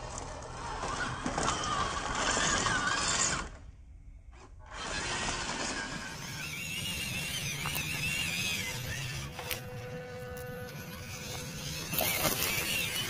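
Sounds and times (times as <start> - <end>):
rc crawler motor whining and rattling: 0.0 - 13.0.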